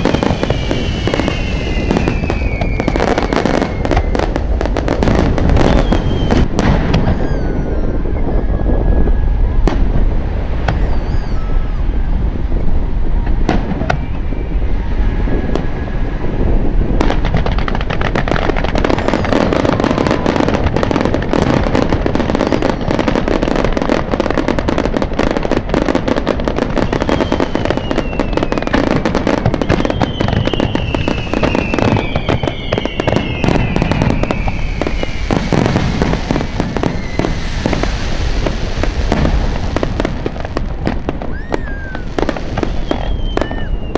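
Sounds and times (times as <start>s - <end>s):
falling firework whistles: 0.0s - 43.9s
fireworks bangs and crackling: 0.0s - 43.9s.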